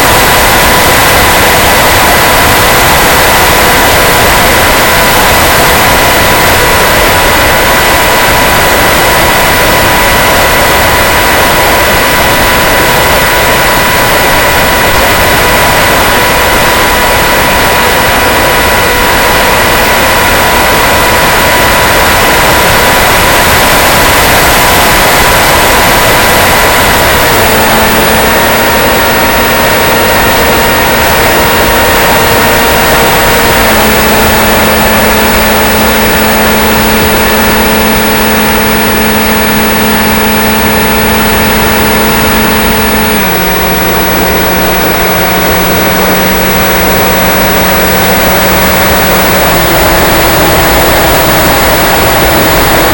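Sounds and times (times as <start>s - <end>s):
model plane motor whine: 0.0s - 52.9s.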